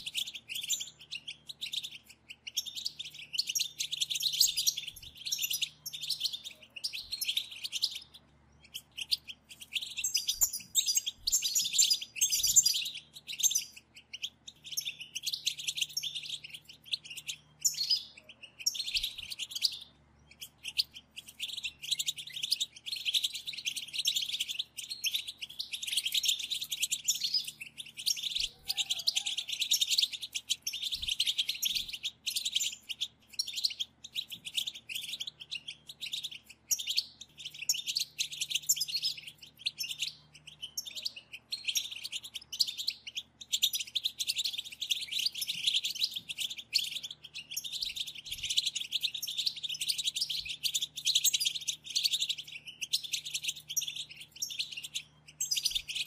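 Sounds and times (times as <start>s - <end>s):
finches twittering: 0.0s - 56.0s.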